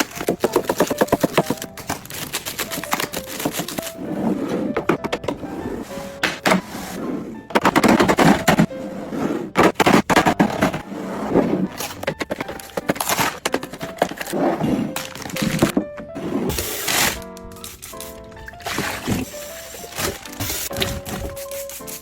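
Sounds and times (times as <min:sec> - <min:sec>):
plastic items clattering: 0:00.0 - 0:08.8, 0:09.5 - 0:22.0.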